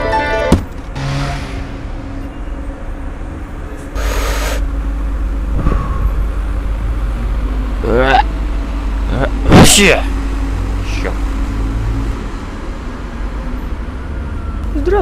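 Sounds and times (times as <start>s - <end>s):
traffic rumble: 0.6s - 15.0s.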